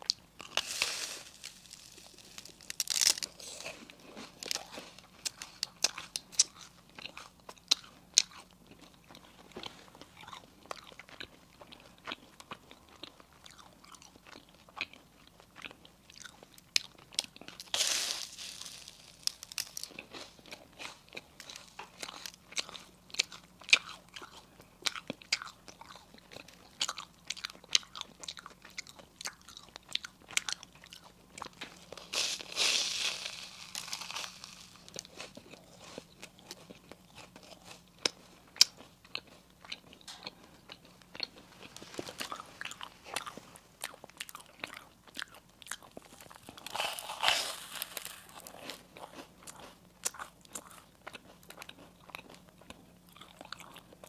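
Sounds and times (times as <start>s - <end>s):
crisp pastry crunching while chewed: 0.0s - 54.0s.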